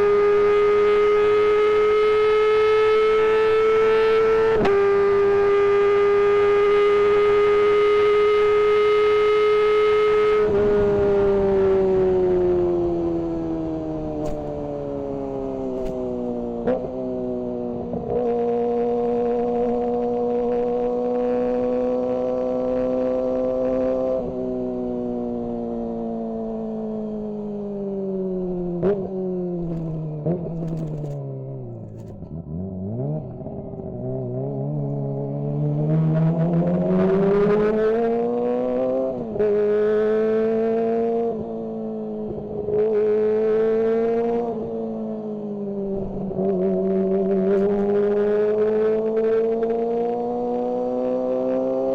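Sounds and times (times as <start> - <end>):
motorcycle engine: 0.0 - 51.9.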